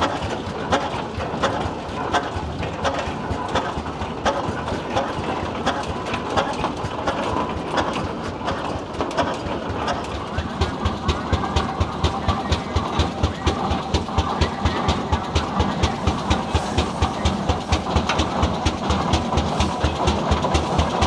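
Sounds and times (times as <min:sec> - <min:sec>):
tractor engine exhaust beats: 0:00.0 - 0:21.0.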